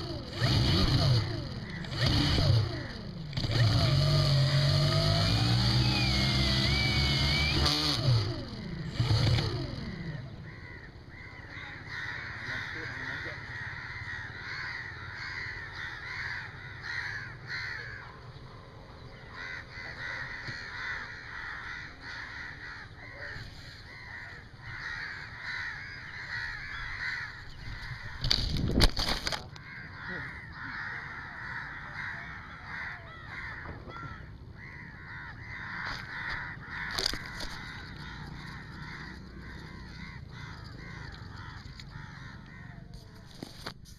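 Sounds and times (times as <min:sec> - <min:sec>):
birds calling: 0:00.0 - 0:43.9.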